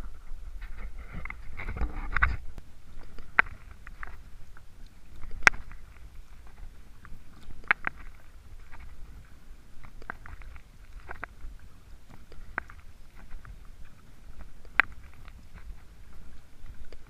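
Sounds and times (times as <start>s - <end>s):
paddle splashing water: 0.0s - 17.0s
paddle ticking: 2.9s - 17.0s.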